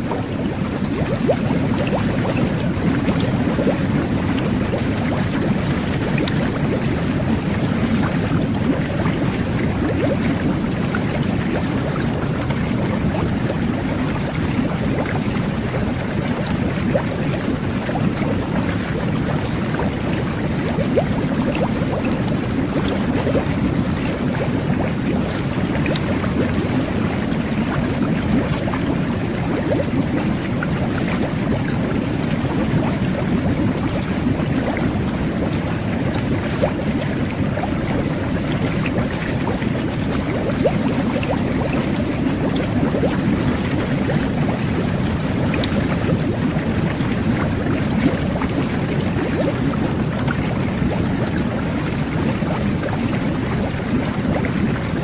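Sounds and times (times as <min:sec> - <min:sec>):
jet bath water bubbling: 0:00.0 - 0:55.0.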